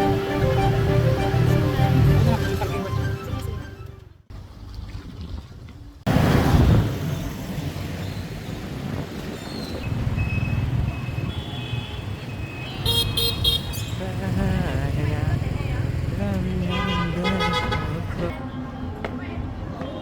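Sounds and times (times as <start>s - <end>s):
road traffic rumble: 0.0s - 4.8s, 6.0s - 20.0s.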